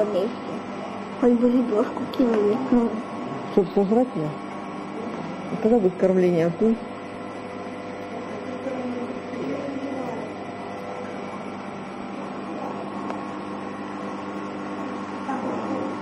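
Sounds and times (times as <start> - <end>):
equipment mechanical hum: 0.0 - 16.0.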